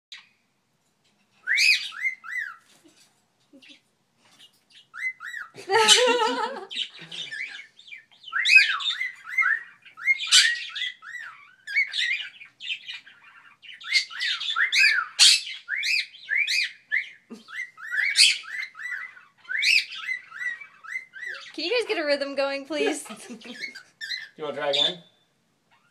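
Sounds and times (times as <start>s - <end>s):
cockatiel chirping: 1.4s - 2.8s, 3.6s - 21.6s, 23.3s - 25.9s.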